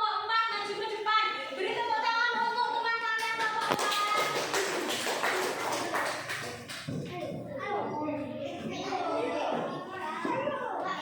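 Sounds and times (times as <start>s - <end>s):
busy classroom noise: 0.0s - 11.0s.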